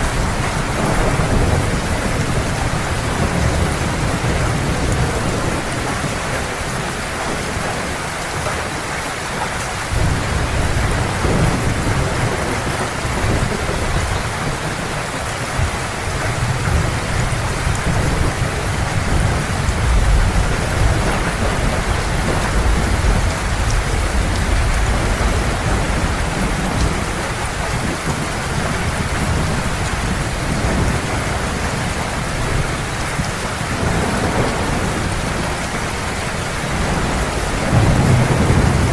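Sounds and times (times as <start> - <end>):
distant thunder rolling: 0.0 - 8.0, 9.9 - 38.9
heavy rain on surfaces: 0.0 - 38.9.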